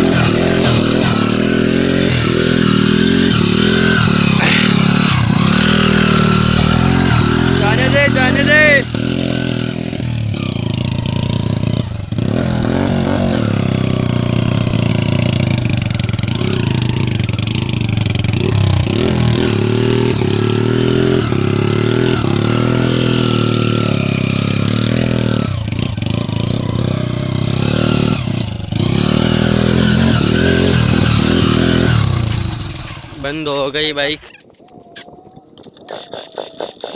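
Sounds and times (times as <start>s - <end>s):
motorcycle engine revving: 0.0s - 33.6s, 34.2s - 36.9s.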